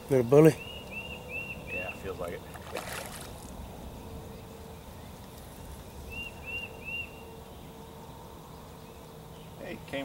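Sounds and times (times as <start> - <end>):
bird chirping: 0.1 - 10.0.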